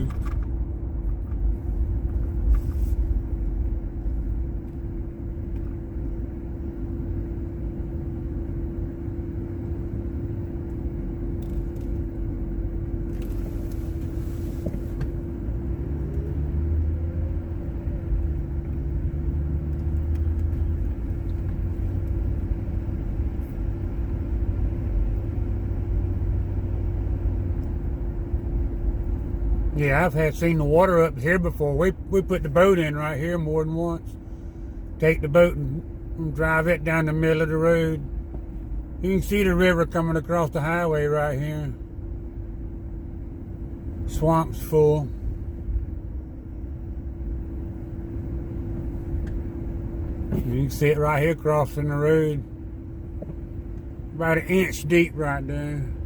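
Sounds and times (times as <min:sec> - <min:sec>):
constant hum: 0:00.0 - 0:56.0
vehicle engine and road rumble: 0:00.0 - 0:56.0.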